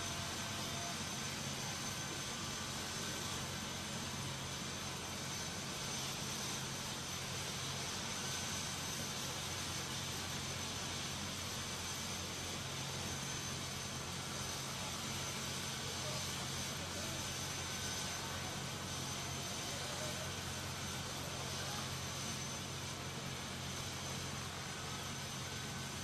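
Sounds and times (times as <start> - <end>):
helicopter running: 0.0 - 26.0.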